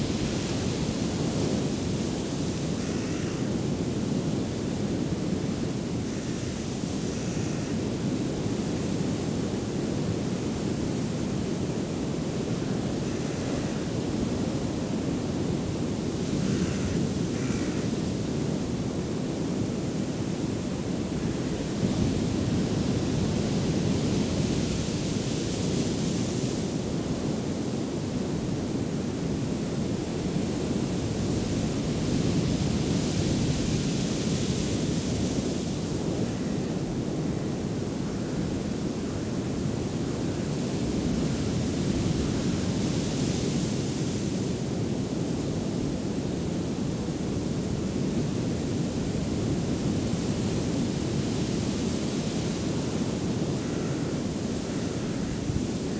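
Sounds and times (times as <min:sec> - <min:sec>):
ocean surf breaking on beach: 0:00.0 - 0:55.9.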